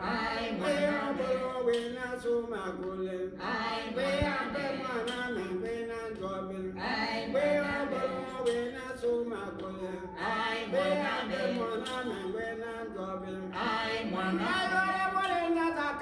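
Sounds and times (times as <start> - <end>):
man singing in chant style: 0.0 - 16.0.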